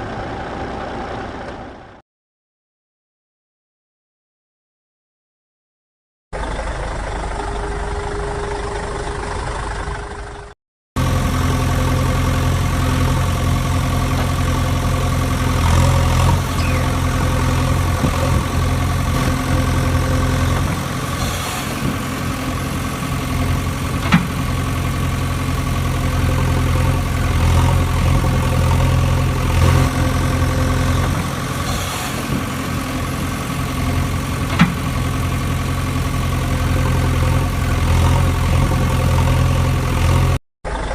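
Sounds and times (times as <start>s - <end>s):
engine idling: 6.4s - 40.9s.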